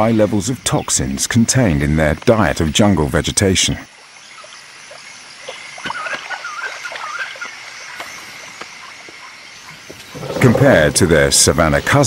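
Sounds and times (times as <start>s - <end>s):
high insect hum: 0.0s - 12.0s.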